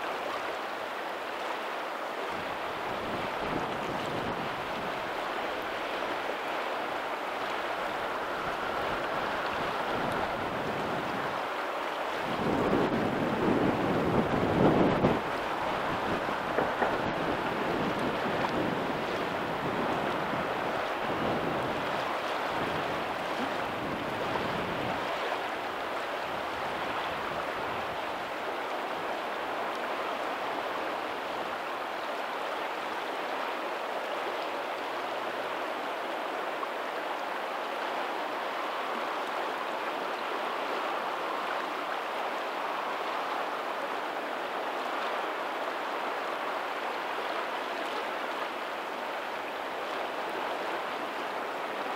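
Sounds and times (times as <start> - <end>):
faint ocean surf: 0.0 - 51.9
water rushing over pebbles: 0.0 - 51.9.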